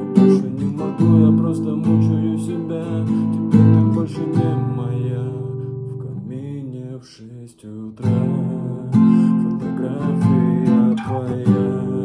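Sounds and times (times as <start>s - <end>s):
acoustic guitar strumming: 0.0s - 6.6s, 8.0s - 12.0s.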